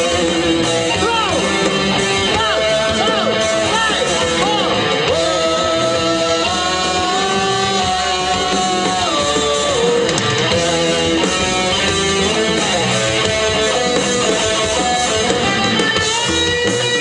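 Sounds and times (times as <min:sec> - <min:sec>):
electric guitar sustained bending notes: 0:00.0 - 0:17.0
live rock band playing: 0:00.0 - 0:17.0.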